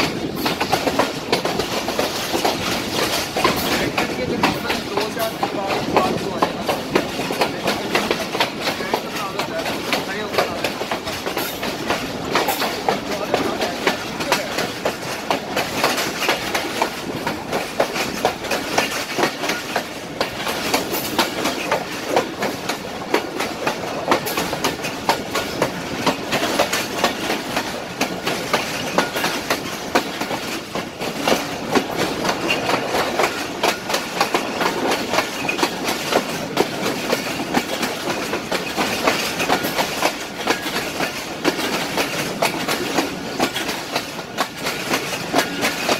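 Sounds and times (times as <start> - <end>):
train rushing noise: 0.0 - 45.9
wheels clickety-clack over rail joints: 0.0 - 45.9.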